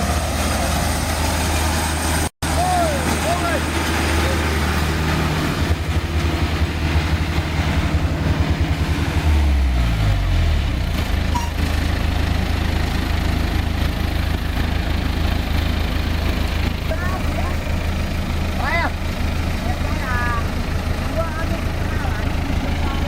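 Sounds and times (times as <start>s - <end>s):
harvester engine running: 0.0s - 23.0s.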